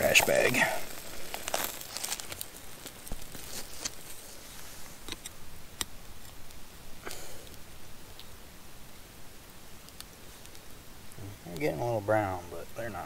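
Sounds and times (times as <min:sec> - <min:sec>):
campfire popping and crackling: 0:00.0 - 0:13.0
faint steady hiss: 0:00.0 - 0:13.0.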